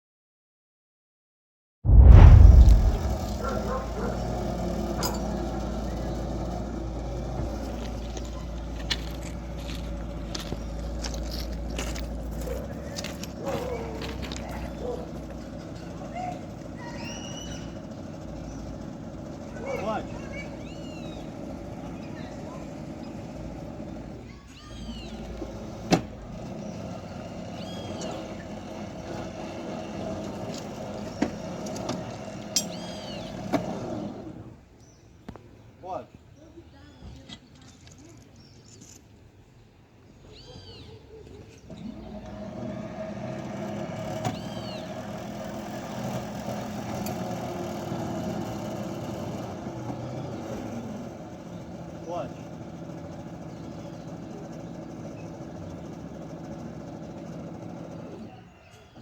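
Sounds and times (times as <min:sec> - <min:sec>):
locomotive engine idling: 0:02.8 - 0:33.8, 0:41.4 - 0:59.0.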